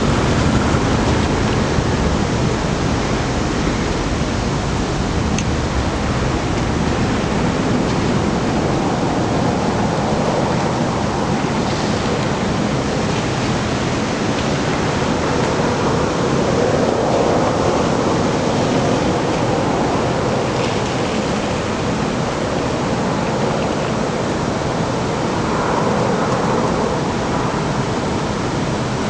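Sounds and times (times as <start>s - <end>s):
wind blowing across microphone: 0.0s - 29.0s.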